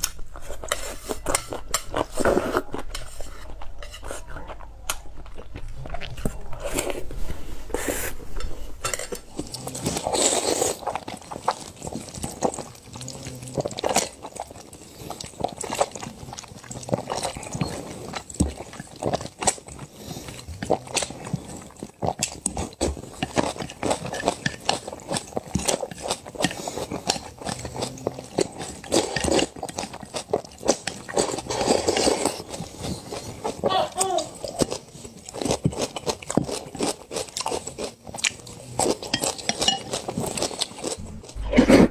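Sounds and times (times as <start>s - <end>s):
noodles slurped and chewed: 0.0s - 41.9s.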